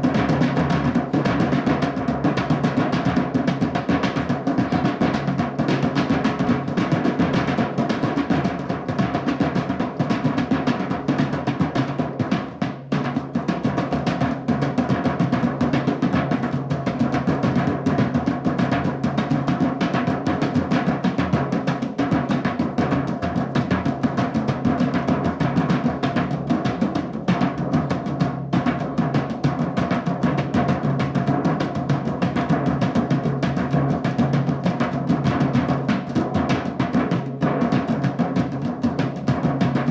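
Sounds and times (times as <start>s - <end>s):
fast drumming: 0.0s - 39.9s.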